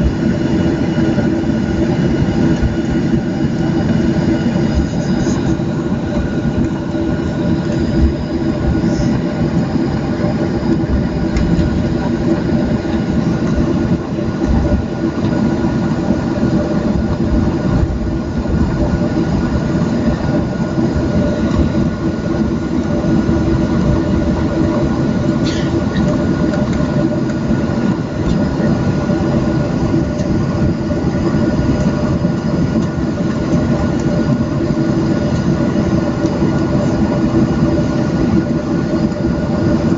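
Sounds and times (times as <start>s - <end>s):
aircraft rolling rumble: 0.0s - 39.9s
jet engine drone with whine: 0.0s - 39.9s.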